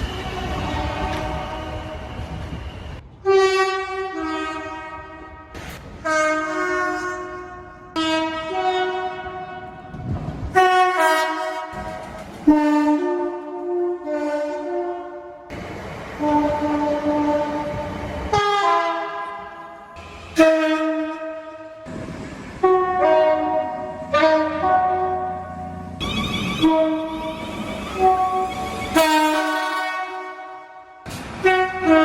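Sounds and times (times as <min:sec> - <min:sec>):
two-tone train horn blasts: 0:00.1 - 0:02.1, 0:03.2 - 0:15.5, 0:16.2 - 0:21.9, 0:22.6 - 0:32.0.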